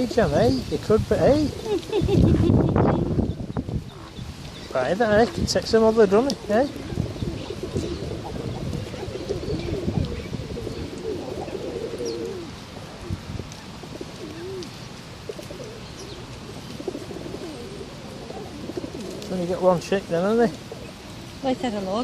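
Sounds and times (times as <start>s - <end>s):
pigeons cooing: 0.0s - 22.0s
small birds chirping: 0.0s - 22.0s.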